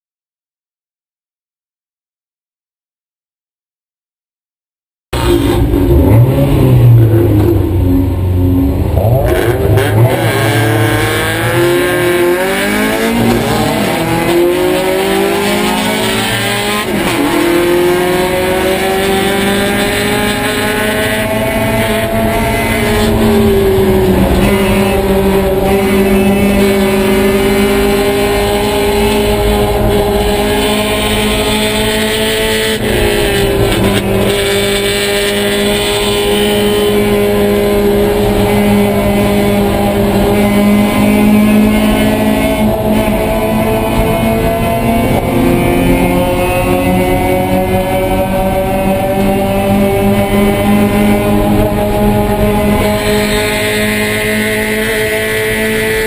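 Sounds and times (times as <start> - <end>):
car engine accelerating: 5.2 - 56.0
other car engines: 5.2 - 56.0.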